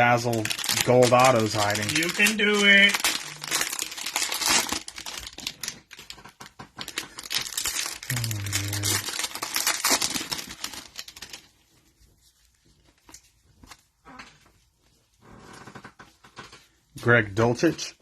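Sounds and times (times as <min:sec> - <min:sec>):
cellophane crinkling and tearing: 0:00.0 - 0:14.6.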